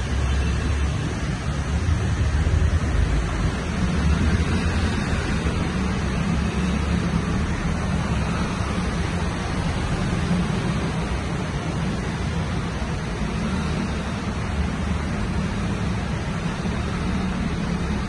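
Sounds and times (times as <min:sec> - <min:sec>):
vehicles rumbling: 0:00.0 - 0:18.0
water swishing around tyres: 0:00.0 - 0:18.0.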